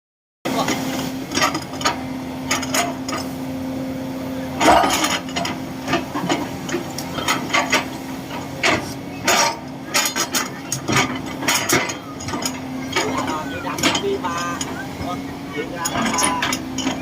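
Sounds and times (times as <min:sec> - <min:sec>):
steady machine hum: 0:00.5 - 0:17.0
knocks and clanks: 0:00.6 - 0:03.3, 0:04.6 - 0:15.2, 0:15.8 - 0:17.0.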